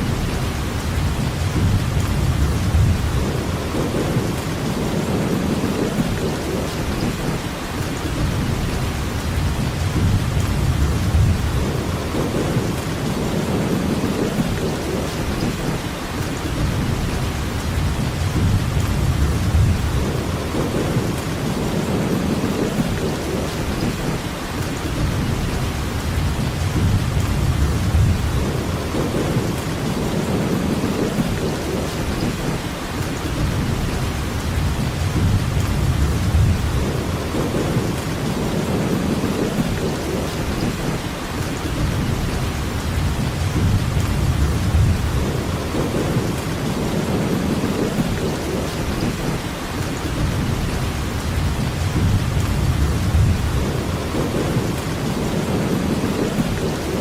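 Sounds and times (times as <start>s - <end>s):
heavy rainfall hiss: 0.0s - 57.0s.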